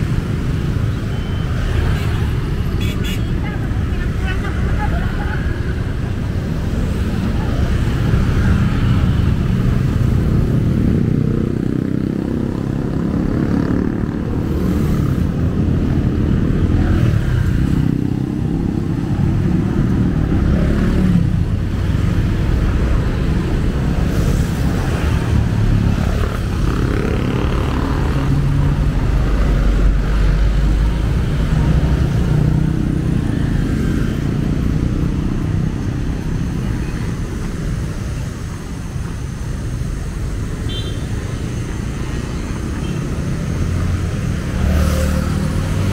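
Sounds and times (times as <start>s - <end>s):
motorcycles and cars passing: 0.0s - 45.9s.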